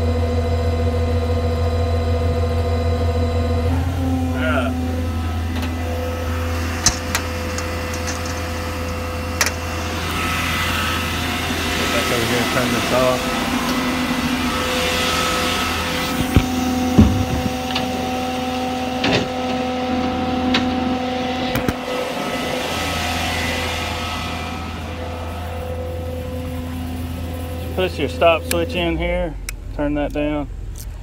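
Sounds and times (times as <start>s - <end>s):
diesel engine droning hum: 0.0s - 31.0s.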